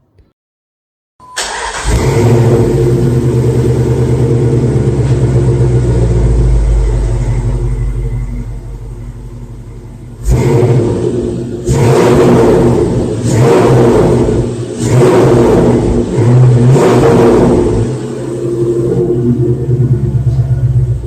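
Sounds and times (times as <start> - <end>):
car engine accelerating: 1.4 - 21.0.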